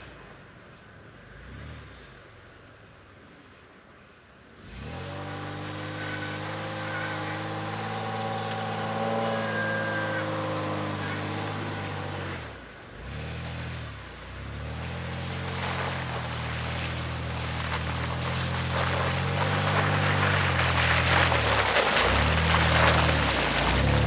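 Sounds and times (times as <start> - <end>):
tyres through snow and slush: 0.0 - 24.0
vehicle engine driving: 4.6 - 24.0.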